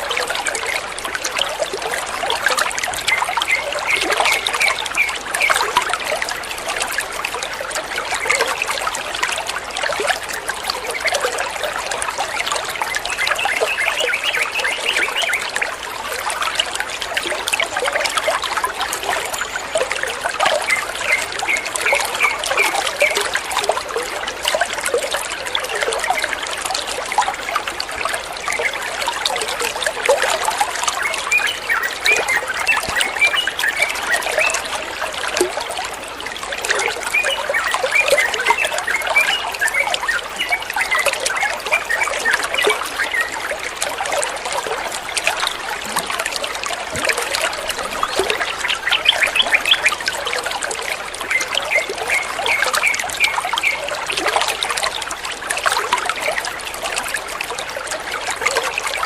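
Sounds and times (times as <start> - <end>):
bright water plinks: 0.0 - 59.0
water trickling and babbling: 0.0 - 59.0.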